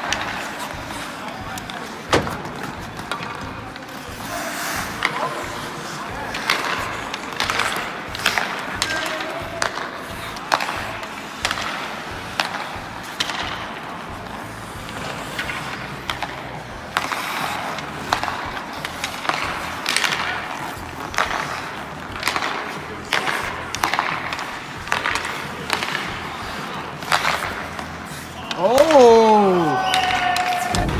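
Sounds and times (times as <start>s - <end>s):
skate blades scraping ice: 0.0s - 30.9s
sticks hitting pucks: 0.0s - 30.9s.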